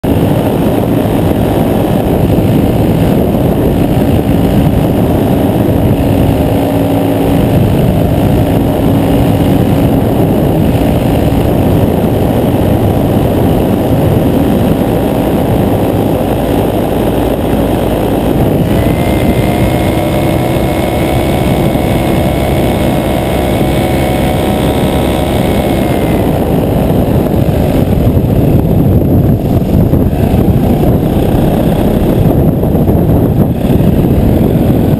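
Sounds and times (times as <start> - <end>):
paramotor engine running: 0.0 - 34.9.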